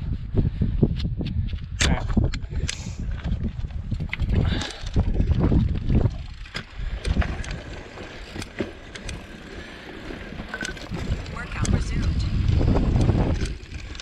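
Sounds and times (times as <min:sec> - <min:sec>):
wind buffeting microphone: 0:00.0 - 0:08.4, 0:09.0 - 0:14.0
bike rattling over stones: 0:02.2 - 0:14.0.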